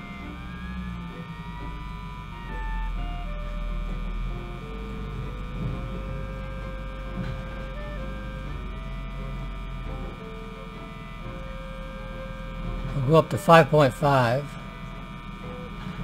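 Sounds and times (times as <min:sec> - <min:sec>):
radio speaker mains hum: 0:00.0 - 0:16.0.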